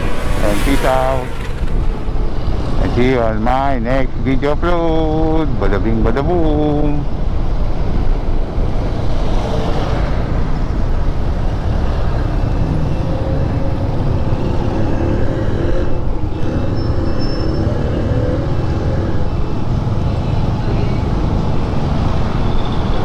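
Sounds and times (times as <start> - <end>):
road and wind noise: 0.0 - 23.0.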